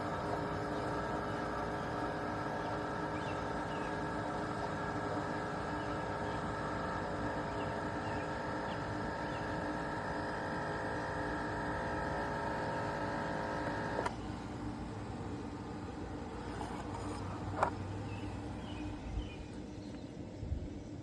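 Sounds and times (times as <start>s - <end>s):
coffee maker motor and pump hum: 0.0s - 21.0s.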